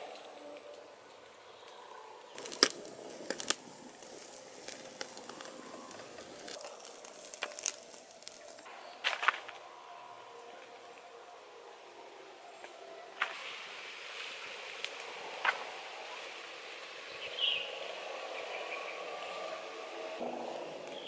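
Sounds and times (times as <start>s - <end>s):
fire popping: 0.0s - 9.6s, 13.2s - 21.0s
wood fire crackling: 0.0s - 9.7s, 12.6s - 21.0s.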